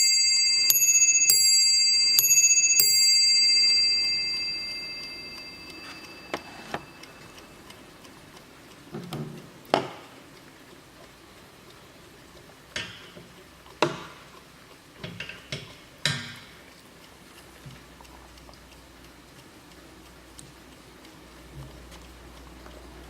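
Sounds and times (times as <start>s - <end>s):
clock ticking: 0.0s - 23.0s.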